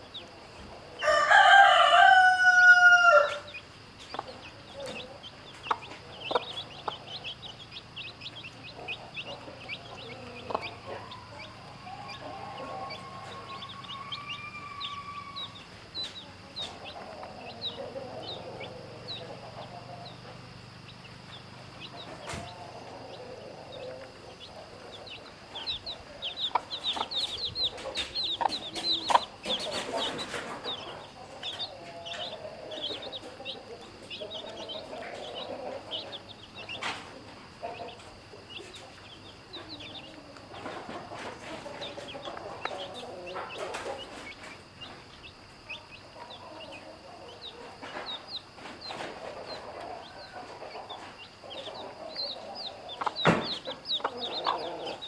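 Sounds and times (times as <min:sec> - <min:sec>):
chicks peeping: 0:00.0 - 0:55.0
hen clucking: 0:00.0 - 0:55.0.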